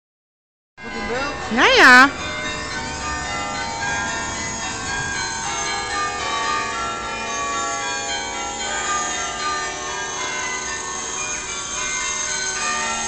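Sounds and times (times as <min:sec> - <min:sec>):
church bells ringing: 0:00.8 - 0:13.0.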